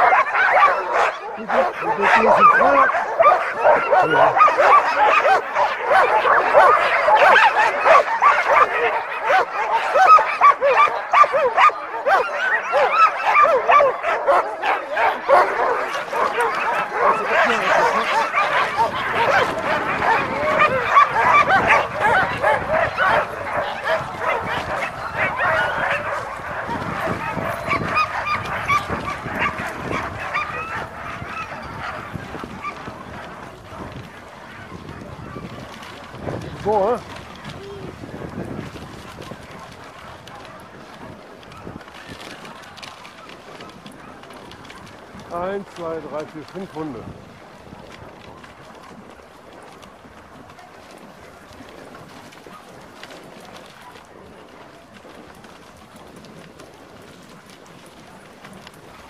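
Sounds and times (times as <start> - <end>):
sled dogs yipping and barking: 0.0 - 59.0.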